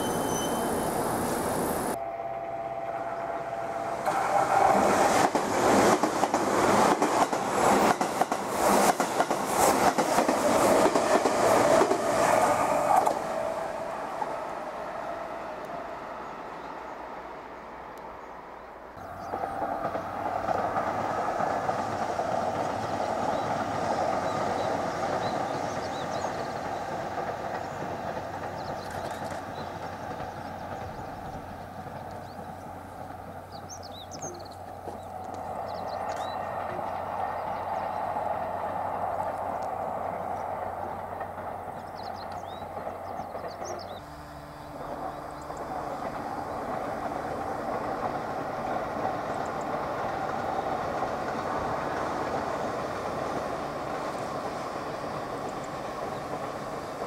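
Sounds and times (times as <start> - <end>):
electric train running: 0.0 - 16.5, 19.1 - 57.0
train wheels clicking over rail joints: 4.0 - 14.4, 19.0 - 57.0.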